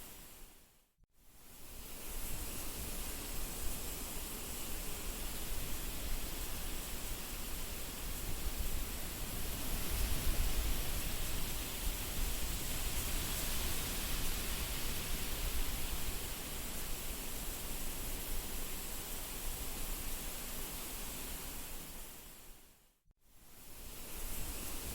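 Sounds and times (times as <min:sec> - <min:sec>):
wind through grass and reeds: 0:00.0 - 0:24.9.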